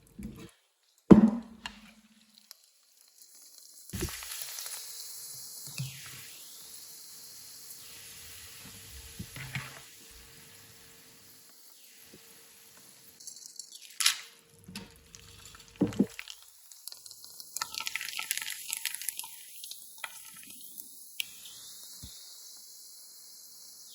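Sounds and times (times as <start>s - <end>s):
faint steady hiss: 0.0s - 17.7s, 18.6s - 23.9s.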